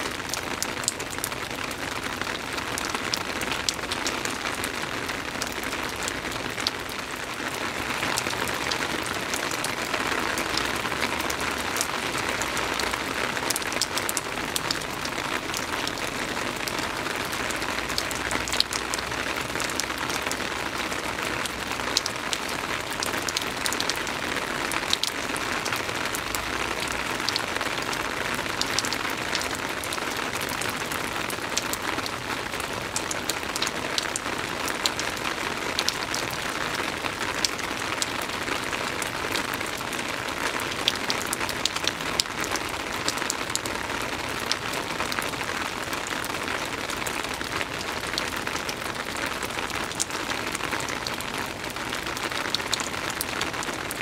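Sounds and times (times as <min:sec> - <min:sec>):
soft steady rain: 0:00.0 - 0:54.0.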